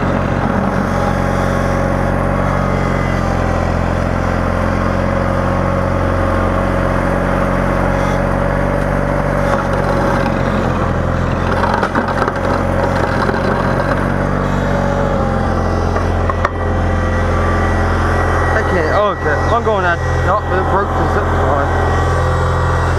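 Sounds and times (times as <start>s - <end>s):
garden tractor engine running: 0.0s - 22.9s.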